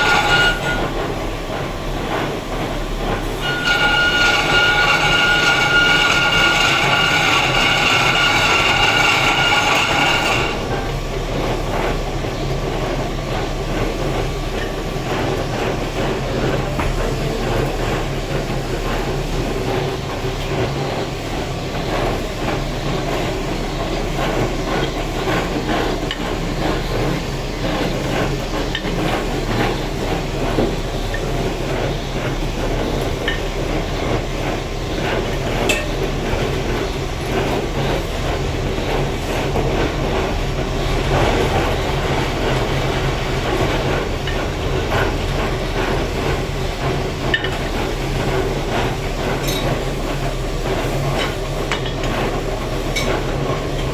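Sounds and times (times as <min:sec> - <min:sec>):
machine humming and rattling: 0:00.0 - 0:53.9.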